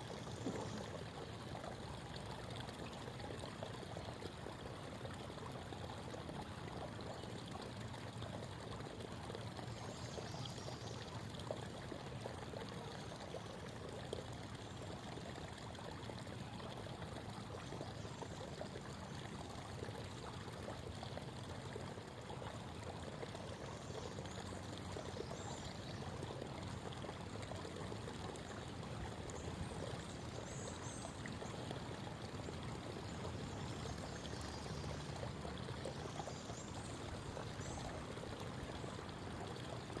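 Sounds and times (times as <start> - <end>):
creek water babbling: 0.0 - 40.0.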